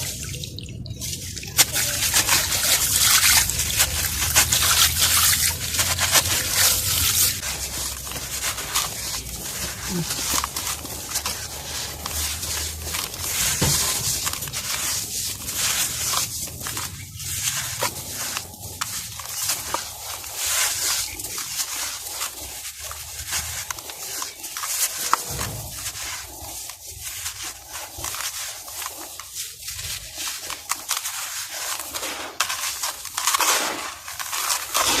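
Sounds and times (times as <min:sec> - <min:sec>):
gritty material crumbling: 0:01.0 - 0:35.0.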